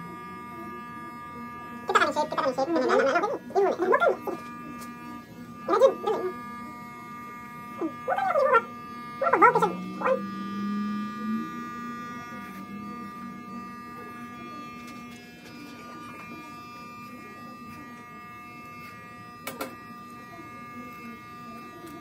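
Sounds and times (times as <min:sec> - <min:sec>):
hair clippers buzzing: 0:00.0 - 0:22.0.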